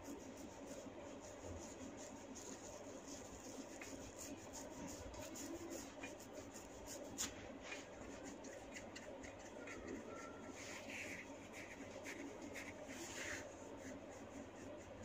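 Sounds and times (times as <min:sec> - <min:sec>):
hands rubbing hair on scalp: 0:00.0 - 0:09.8, 0:10.5 - 0:15.0.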